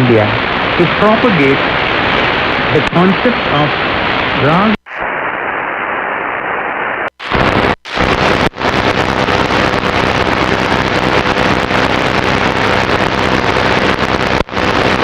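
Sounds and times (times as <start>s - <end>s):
faint steady hum: 0.0s - 15.0s
shortwave receiver hiss and static: 0.0s - 15.0s.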